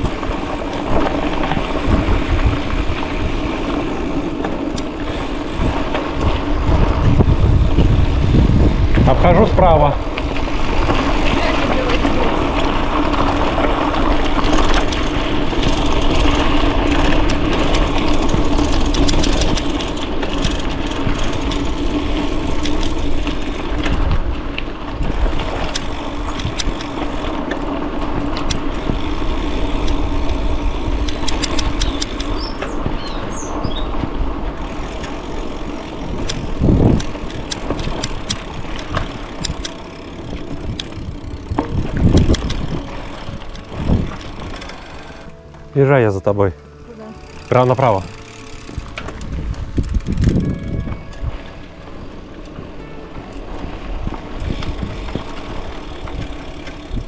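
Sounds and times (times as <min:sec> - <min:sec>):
bicycle rolling on bumpy trail: 0:00.0 - 0:57.0
bike clicks and rattles: 0:00.0 - 0:57.0.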